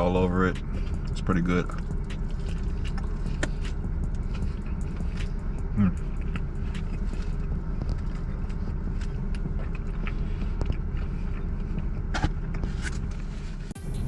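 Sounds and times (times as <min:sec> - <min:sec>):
steady low rumble: 0:00.0 - 0:14.0
person chewing food: 0:00.5 - 0:13.2.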